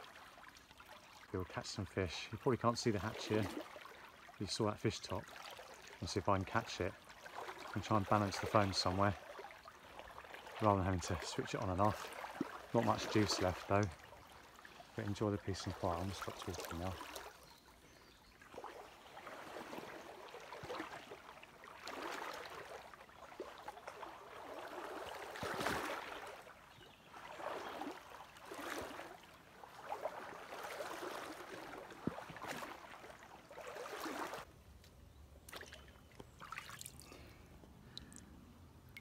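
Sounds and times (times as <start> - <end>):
river water trickling: 0.0 - 39.0.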